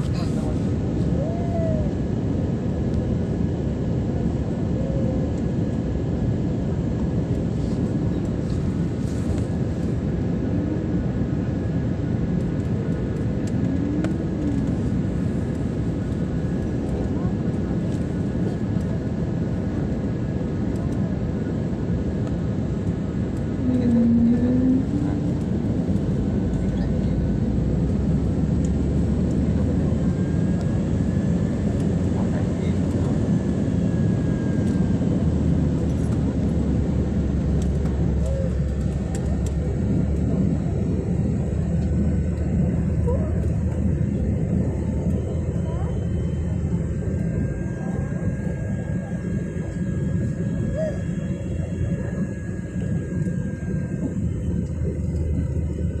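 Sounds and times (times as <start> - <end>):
airliner cabin engine drone: 0.0 - 56.0
faint steady whine: 0.0 - 56.0.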